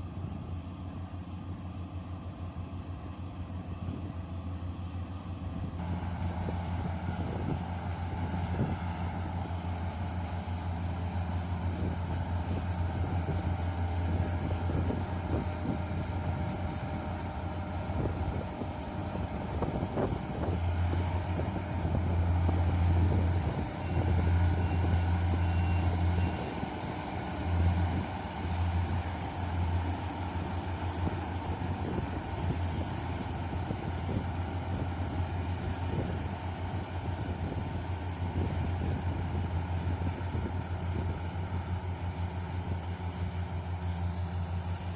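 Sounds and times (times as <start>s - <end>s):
combine harvester engine hum: 0.0s - 44.9s.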